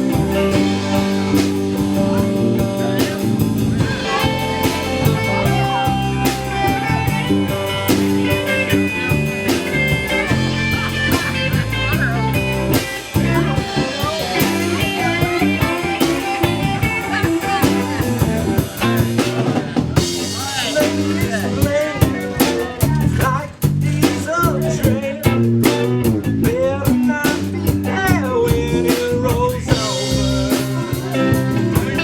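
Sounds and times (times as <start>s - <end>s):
bass: 0.0s - 32.0s
guitar lead: 0.0s - 32.0s
steady drum beat: 0.0s - 32.0s.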